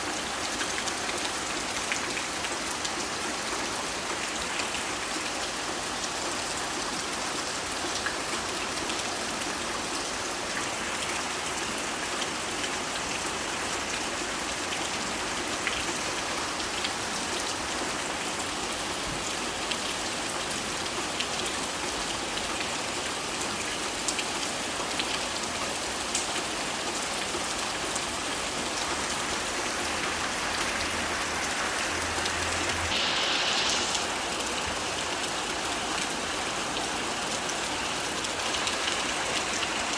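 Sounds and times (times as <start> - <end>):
rain drumming on a tin roof: 0.0 - 39.9.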